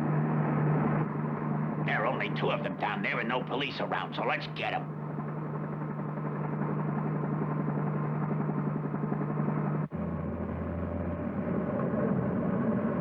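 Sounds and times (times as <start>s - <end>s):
cartoon vehicle engine drone: 0.0s - 13.0s.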